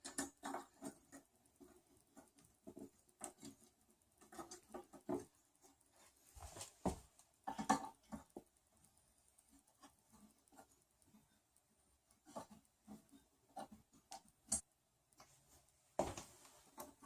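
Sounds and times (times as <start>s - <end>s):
small clicks and scrapes of hands: 0.0s - 15.4s, 16.2s - 17.0s.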